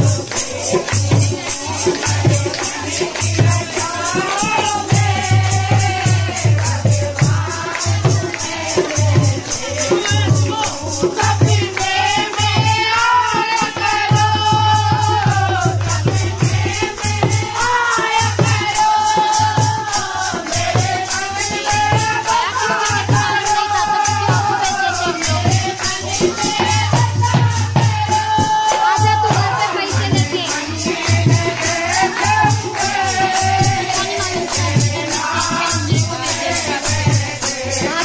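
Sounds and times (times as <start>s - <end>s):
hand drum beating: 0.0s - 38.0s
jingling rattle percussion: 0.0s - 38.0s
women singing folk song: 0.0s - 38.0s.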